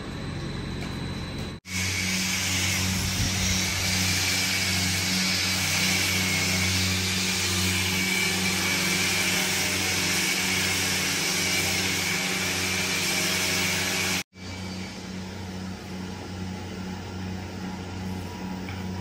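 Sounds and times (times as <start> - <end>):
power tool motor running: 1.0 - 19.0.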